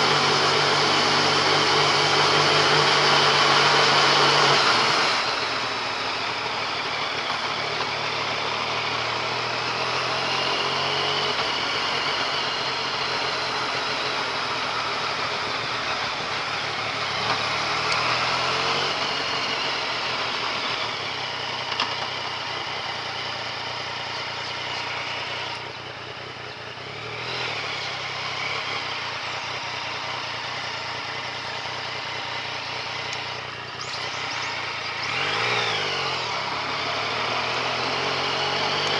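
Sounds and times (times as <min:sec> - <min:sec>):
motorcycle engine running: 0:00.0 - 0:38.9
wind and road rush: 0:00.0 - 0:38.9.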